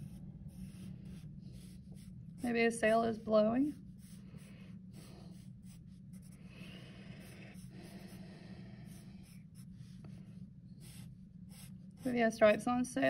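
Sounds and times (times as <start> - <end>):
marker strokes on paper: 0.0 - 12.3
low hum: 0.0 - 13.0.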